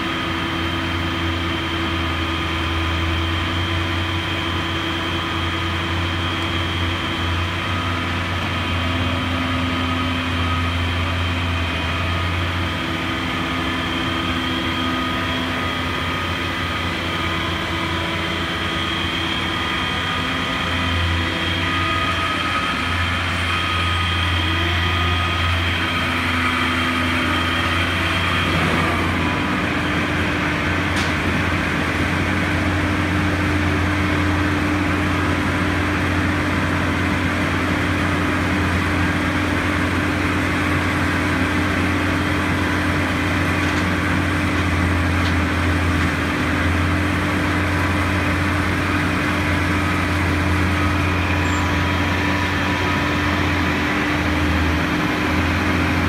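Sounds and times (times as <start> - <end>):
crane diesel engine running: 0.0 - 56.0.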